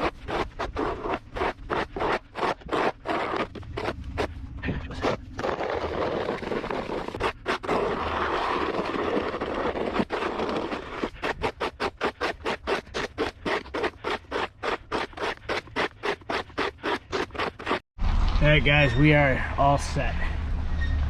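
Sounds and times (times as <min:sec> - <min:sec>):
gritty scraping on snowy walkway: 0:00.0 - 0:17.8.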